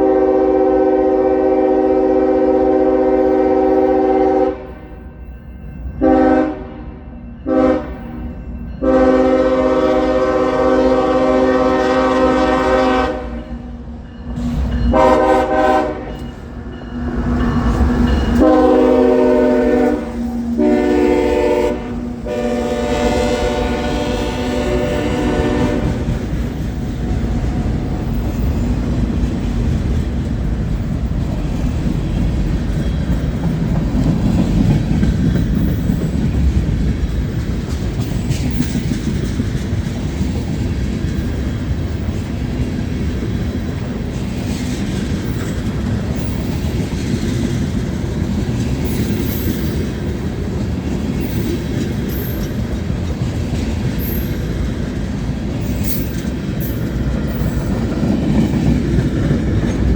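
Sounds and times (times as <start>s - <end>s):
train wheels rumbling on rail: 0.0s - 59.9s
clickety-clack over rail joints: 7.4s - 59.9s.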